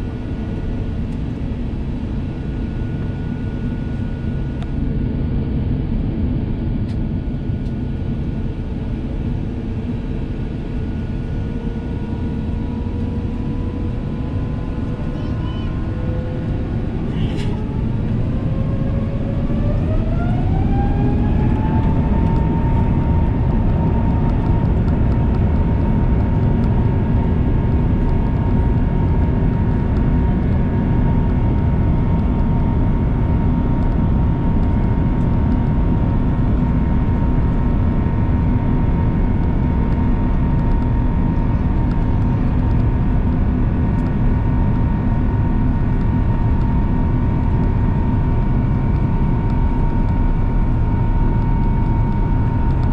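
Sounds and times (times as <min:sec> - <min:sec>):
jet engine whine: 0:00.0 - 0:52.9
loud low engine rumble: 0:09.2 - 0:52.9.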